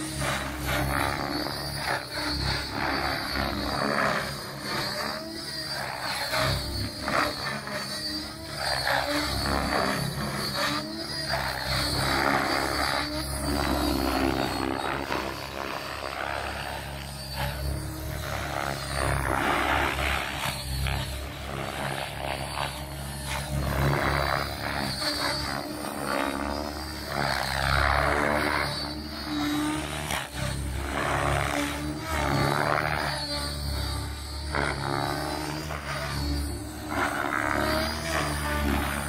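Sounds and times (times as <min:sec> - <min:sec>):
electric motor whining: 0:00.0 - 0:39.0
helicopter rotor blades whooshing: 0:00.0 - 0:39.0.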